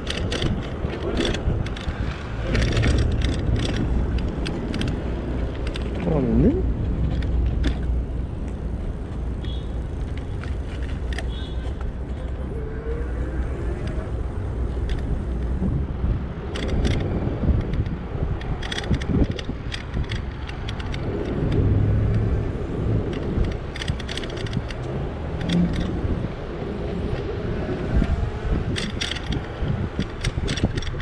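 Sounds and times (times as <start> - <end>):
sharp clicks and rattles: 0.0 - 12.4, 13.1 - 31.0
wind and road rumble: 0.0 - 31.0.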